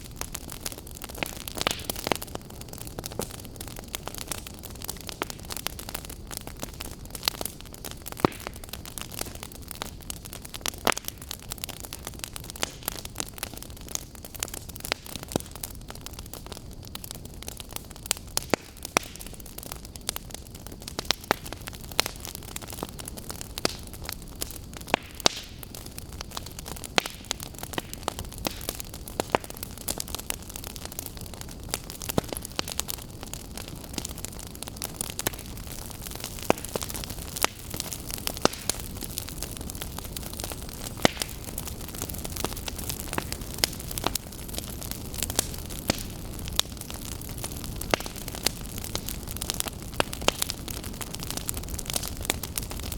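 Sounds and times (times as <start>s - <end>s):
logs crackling and popping: 0.0s - 52.9s
low hiss of flames: 0.0s - 52.9s.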